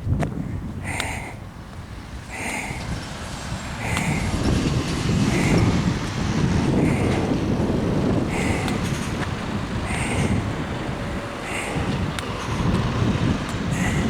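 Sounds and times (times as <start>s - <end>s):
monster truck engine rumbling: 0.0s - 14.0s.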